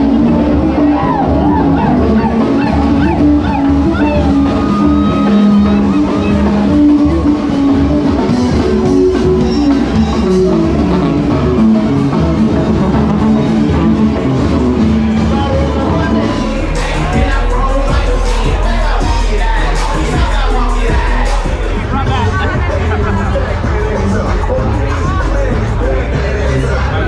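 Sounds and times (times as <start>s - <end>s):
live band playing dance music: 0.0s - 27.0s
sousaphone bass line: 0.0s - 27.0s.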